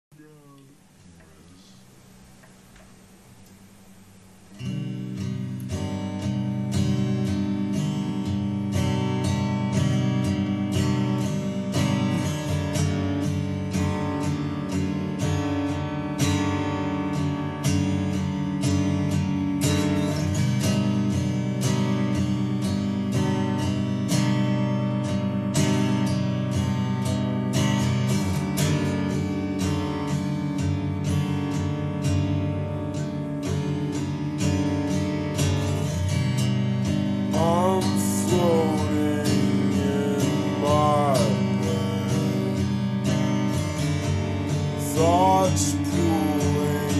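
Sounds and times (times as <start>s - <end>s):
strummed guitar: 0.1s - 46.9s.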